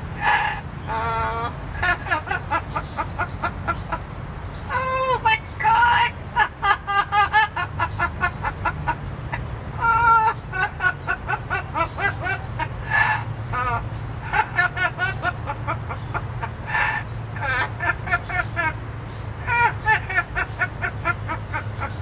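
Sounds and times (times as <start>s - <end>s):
parrot cackling: 0.0s - 22.0s.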